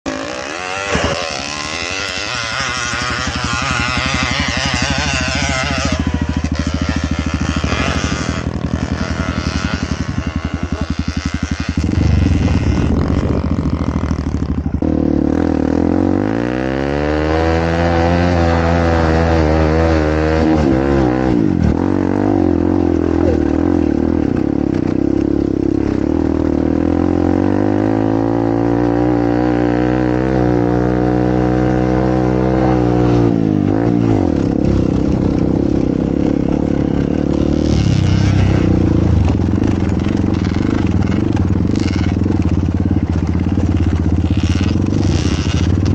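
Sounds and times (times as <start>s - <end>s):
dirt bike engine revving: 0.1s - 45.9s.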